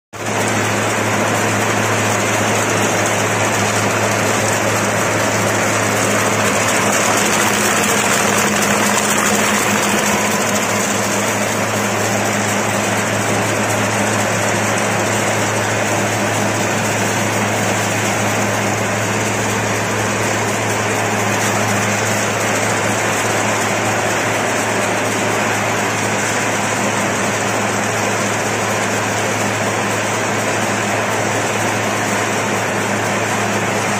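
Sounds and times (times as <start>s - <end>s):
machine humming and whirring: 0.2s - 33.9s.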